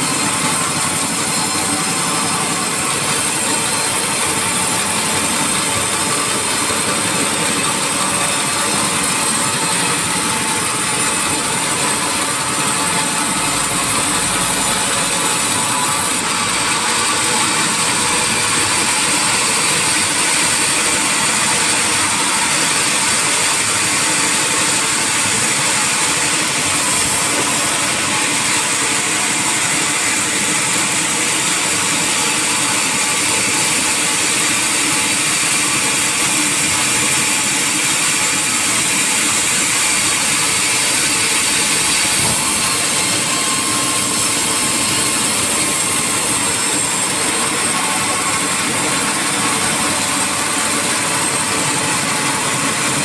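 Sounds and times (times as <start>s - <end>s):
sawmill saw running: 0.0s - 53.0s.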